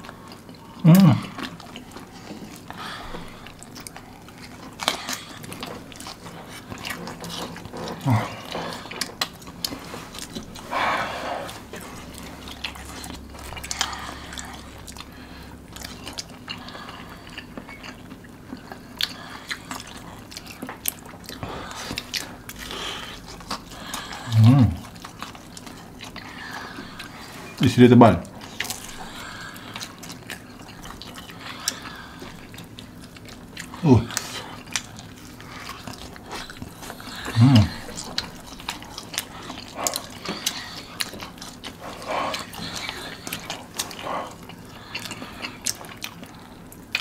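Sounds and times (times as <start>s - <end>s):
crunching and chewing chicken: 0.0s - 47.0s
low hummed vocal sound: 0.0s - 47.0s.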